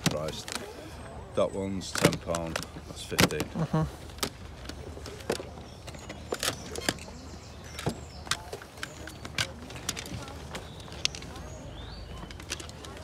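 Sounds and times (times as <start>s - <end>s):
boxes being handled clicking: 0.0s - 0.9s, 1.6s - 13.0s.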